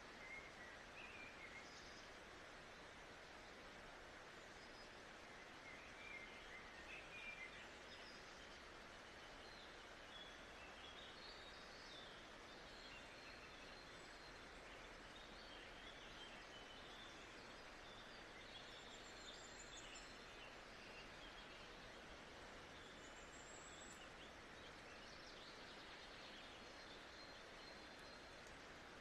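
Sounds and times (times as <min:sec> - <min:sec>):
soft hiss: 0:00.0 - 0:29.0
quiet bird chirps: 0:00.1 - 0:03.6, 0:04.3 - 0:29.0.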